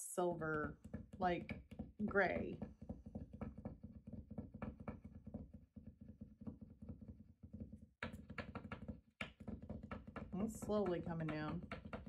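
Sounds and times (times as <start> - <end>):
marker nib tapping on paper: 0.5 - 12.0.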